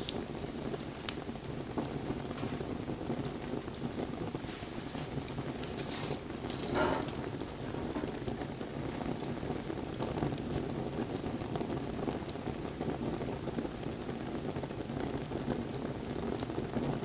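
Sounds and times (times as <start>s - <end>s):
fire popping: 0.0s - 17.0s
wood fire hissing and crackling: 0.0s - 17.0s.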